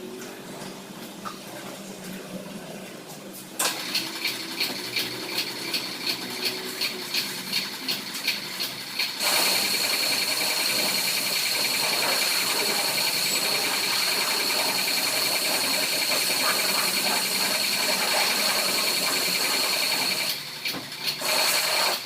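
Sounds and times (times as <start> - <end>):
pressure washer spraying: 3.6 - 20.4, 21.0 - 22.0.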